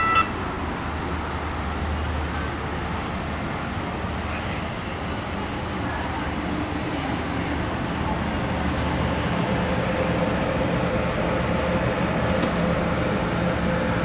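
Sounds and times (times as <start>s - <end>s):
light rail trains humming: 0.0s - 14.0s.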